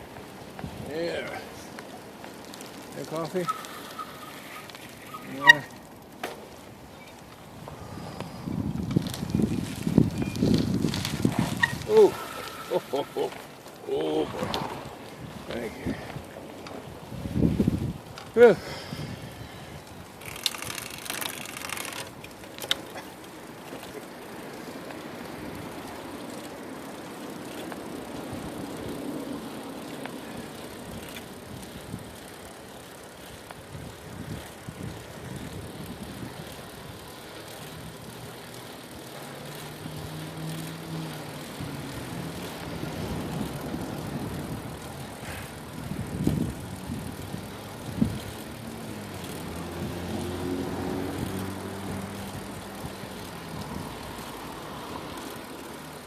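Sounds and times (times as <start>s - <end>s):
bicycle tyre and wind noise: 0.0s - 56.0s.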